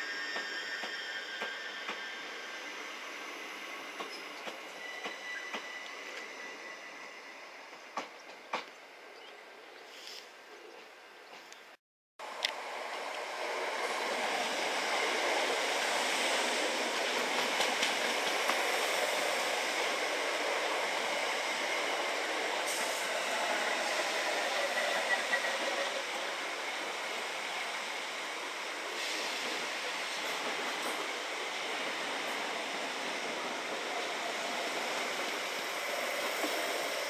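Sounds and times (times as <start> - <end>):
train wheels rushing on rail: 0.0 - 8.8, 12.2 - 37.0.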